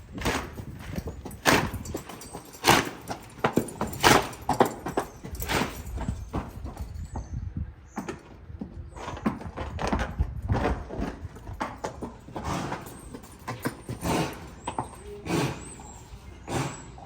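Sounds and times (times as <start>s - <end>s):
horse hoofbeats on ground: 0.0s - 17.0s.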